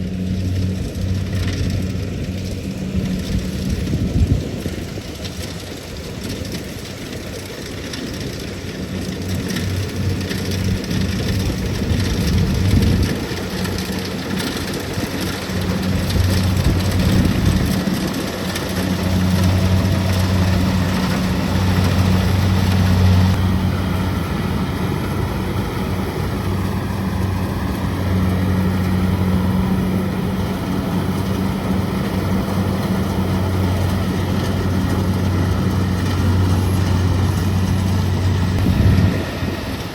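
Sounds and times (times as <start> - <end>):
combine harvester diesel engine droning: 0.0 - 39.9.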